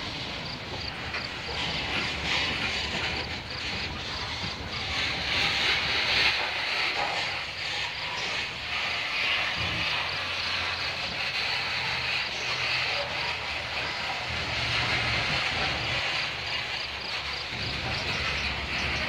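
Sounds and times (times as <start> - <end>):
freight train wheels rumbling: 0.0 - 19.0
high creaking hiss: 0.0 - 19.0.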